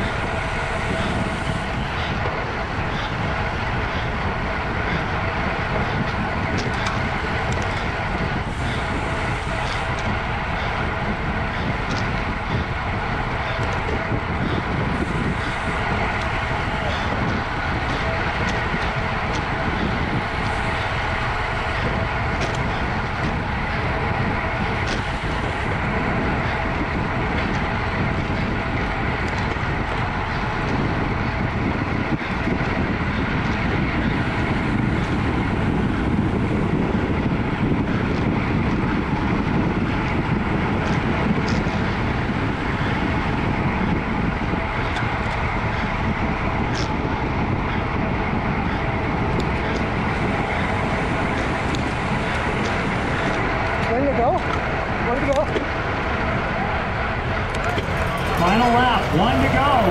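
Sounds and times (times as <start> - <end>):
bicycle tyre noise: 0.0 - 59.9
wind rushing over microphone: 0.0 - 59.9.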